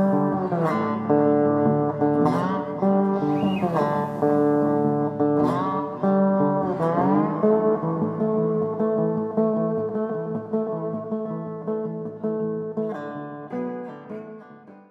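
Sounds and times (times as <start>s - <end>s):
guitar chords with downward slides: 0.0s - 14.9s.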